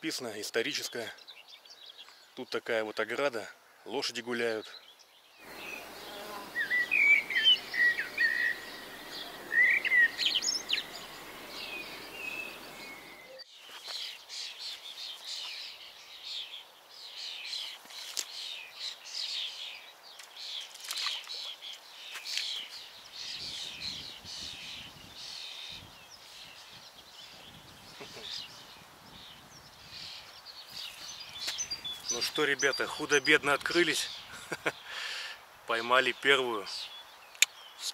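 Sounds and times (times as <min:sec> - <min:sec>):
small birds chirping: 0:00.1 - 0:37.9.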